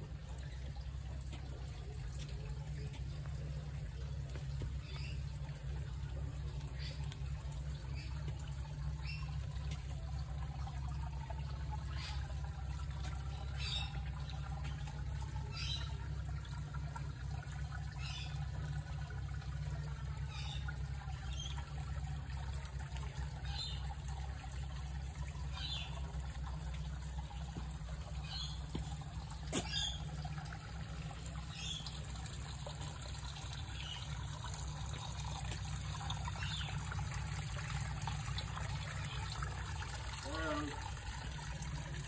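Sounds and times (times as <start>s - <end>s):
water trickling into a drain: 0.0s - 42.0s.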